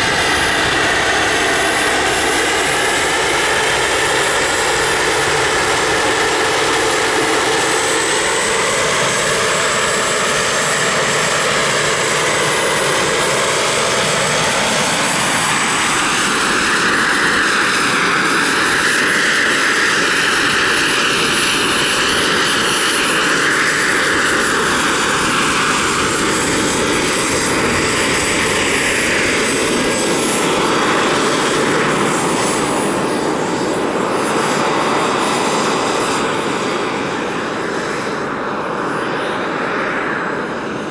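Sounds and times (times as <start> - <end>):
model helicopter rotor whine: 0.0 - 40.9.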